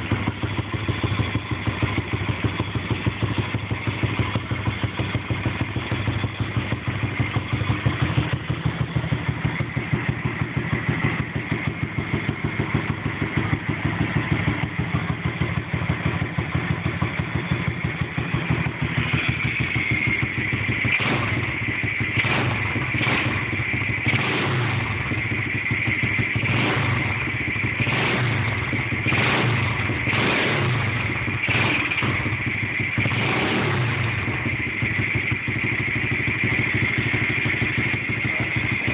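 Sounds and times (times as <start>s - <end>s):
engine throttle blips: 0.0s - 38.9s
pit bike engine idling: 0.0s - 38.9s.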